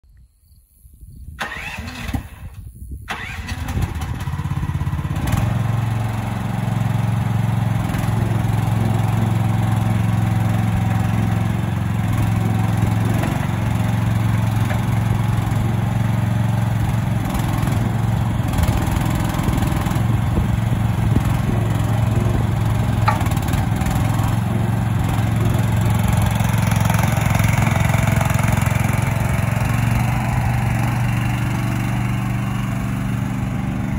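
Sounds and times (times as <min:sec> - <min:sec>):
excavator engine running: 0:03.1 - 0:33.9.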